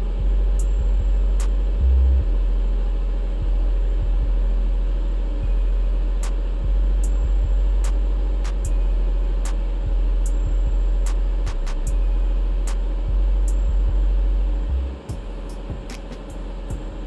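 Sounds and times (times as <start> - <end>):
faint steady tones: 0.0 - 17.0
laser engraver humming: 0.0 - 17.0.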